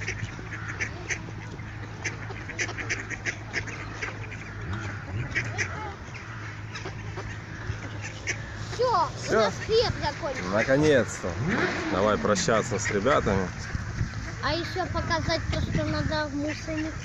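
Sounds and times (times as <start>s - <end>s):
ducks quacking: 0.0s - 17.0s
low steady hum: 0.0s - 17.0s.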